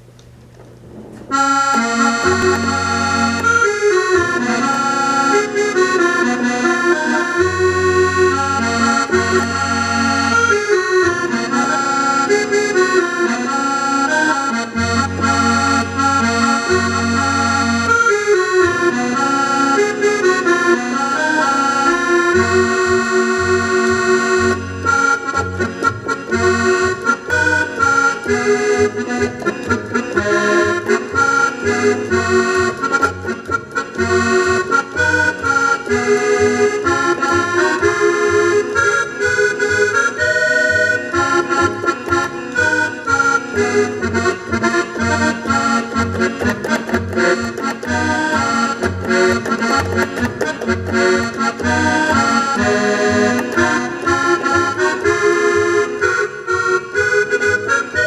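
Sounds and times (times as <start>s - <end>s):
digital accordion playing a tune: 1.2s - 58.0s.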